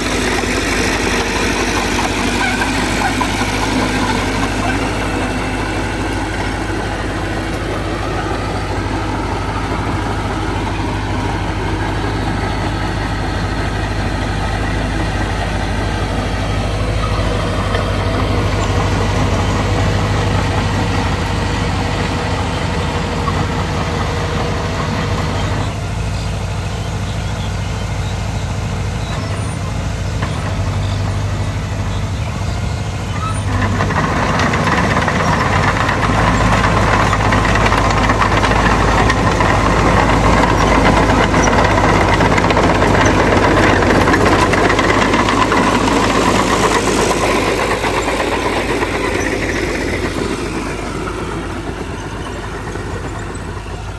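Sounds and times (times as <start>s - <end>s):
heavy diesel machinery engines: 0.0s - 53.9s.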